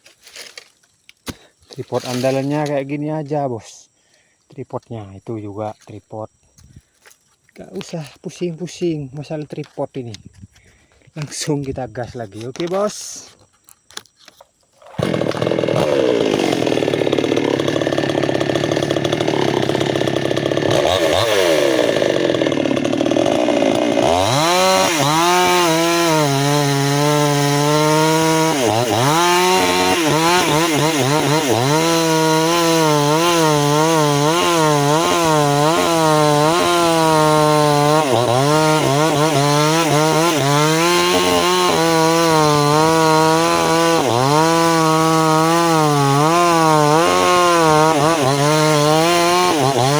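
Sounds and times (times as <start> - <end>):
chainsaw cutting wood: 0.0 - 2.8, 12.4 - 49.9.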